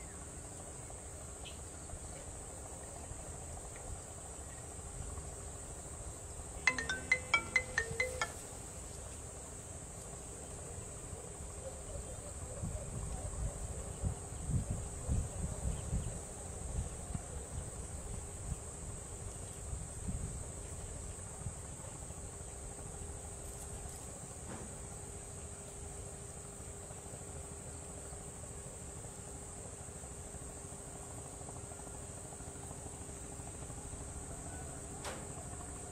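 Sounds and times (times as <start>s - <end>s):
insect chorus: 0.0s - 35.9s.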